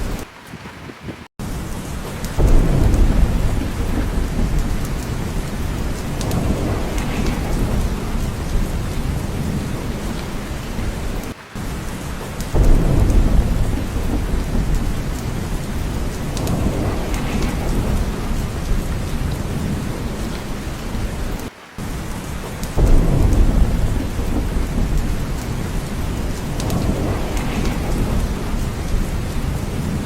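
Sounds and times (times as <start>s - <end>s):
steady rain: 0.0s - 30.0s
thunder rumble: 0.0s - 30.0s.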